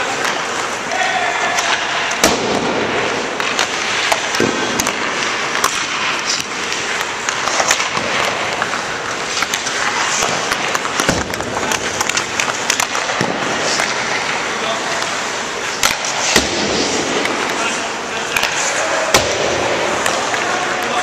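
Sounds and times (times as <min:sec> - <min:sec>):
echoing rink din: 0:00.0 - 0:21.0
pucks and sticks clacking: 0:00.0 - 0:21.0
skates scraping ice: 0:00.0 - 0:21.0.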